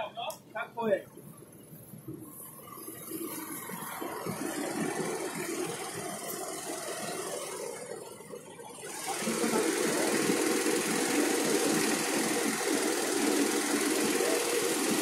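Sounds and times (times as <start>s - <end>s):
tractor diesel engine under load: 2.2s - 15.0s.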